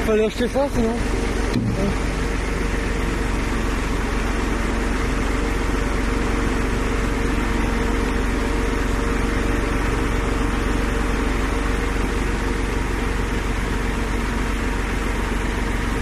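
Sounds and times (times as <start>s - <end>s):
crane engine droning: 0.0s - 16.0s.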